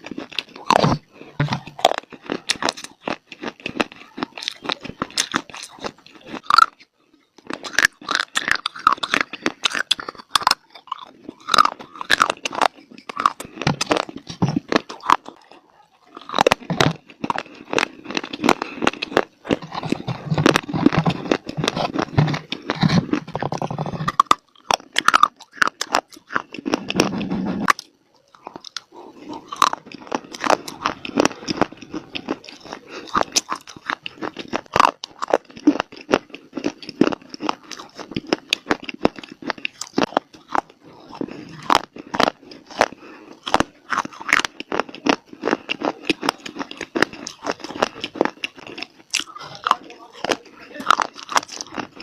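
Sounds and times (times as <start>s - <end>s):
chewing dry clay: 0.0s - 52.0s.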